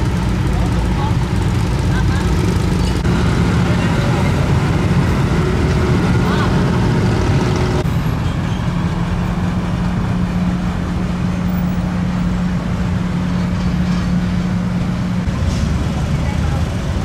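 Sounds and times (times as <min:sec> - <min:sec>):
crane engine droning: 0:00.0 - 0:17.0.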